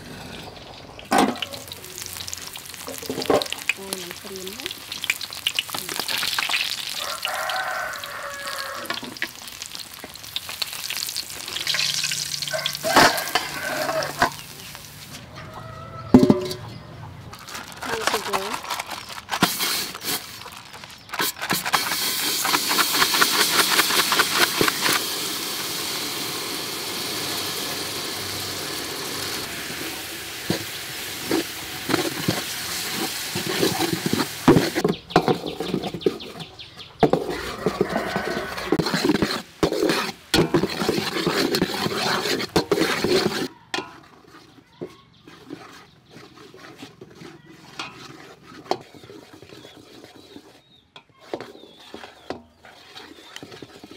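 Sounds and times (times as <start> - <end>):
sugar sizzling in a hot pot: 0.0 - 15.2, 17.9 - 36.4, 37.0 - 44.6, 51.5 - 53.9
stirring and scraping in a pot: 0.0 - 53.9.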